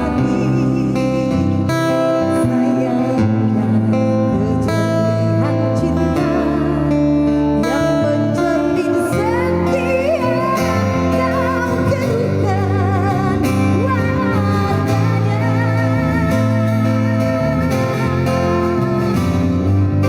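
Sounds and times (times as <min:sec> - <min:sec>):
live band guitar and bass: 0:00.0 - 0:20.0
woman singing with vibrato: 0:00.0 - 0:20.0.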